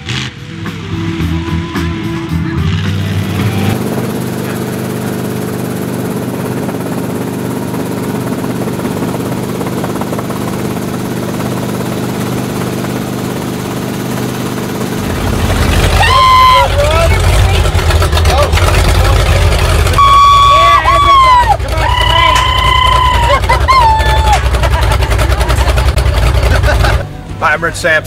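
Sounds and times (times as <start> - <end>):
deeper engine sound: 0.0 - 28.0
engine drone: 0.0 - 28.0.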